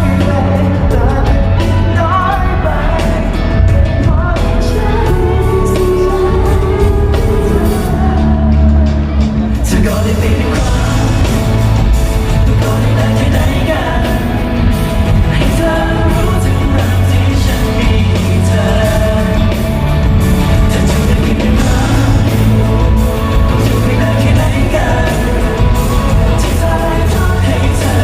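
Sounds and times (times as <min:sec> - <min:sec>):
lead singer: 0:00.0 - 0:28.0
live band playing: 0:00.0 - 0:28.0
steady drumbeat: 0:00.0 - 0:28.0.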